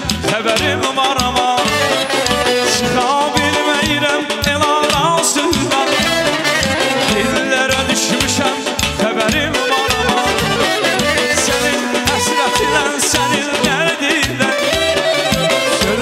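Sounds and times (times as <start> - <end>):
man singing: 0.0 - 16.0
pop dance music over loudspeakers: 0.0 - 16.0.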